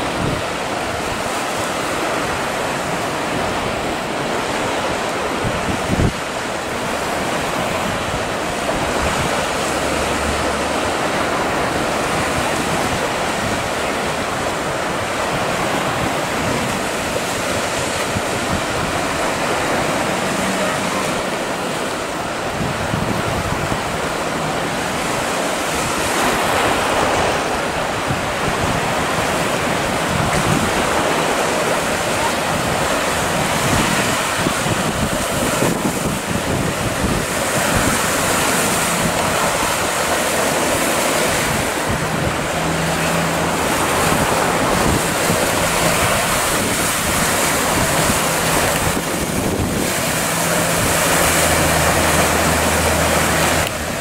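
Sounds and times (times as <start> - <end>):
choppy sea and breaking surf: 0.0 - 54.0
outboard motor humming: 0.0 - 54.0
wind buffeting microphone: 0.0 - 54.0.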